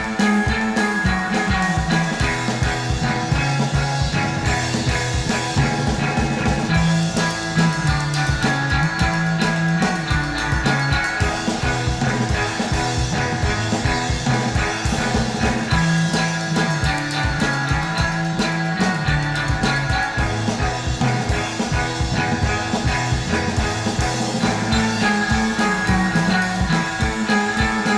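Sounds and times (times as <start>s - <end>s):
rock music: 0.0s - 27.9s.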